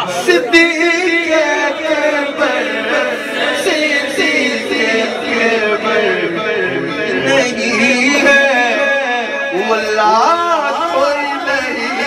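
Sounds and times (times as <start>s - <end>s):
men singing together: 0.0s - 9.6s, 10.5s - 12.0s
person singing into a microphone: 0.0s - 12.0s.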